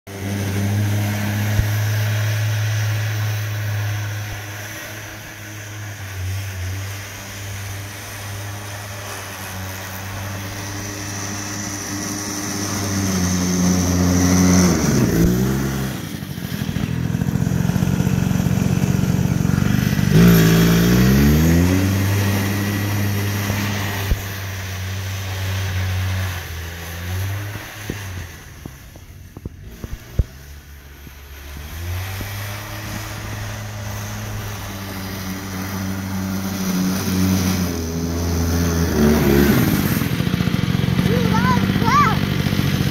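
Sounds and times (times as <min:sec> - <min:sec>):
snowmobile engine passing by: 0:00.1 - 0:42.9.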